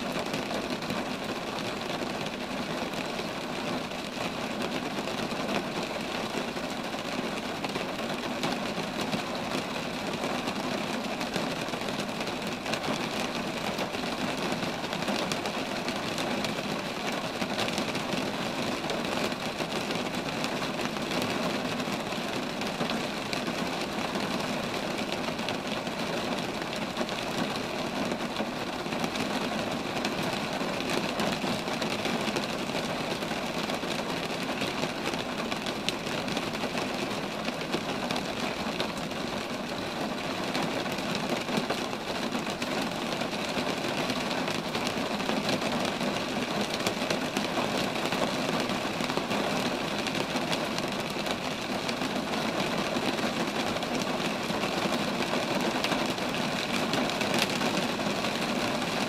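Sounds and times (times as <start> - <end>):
rain falling on trees: 0.0 - 59.0.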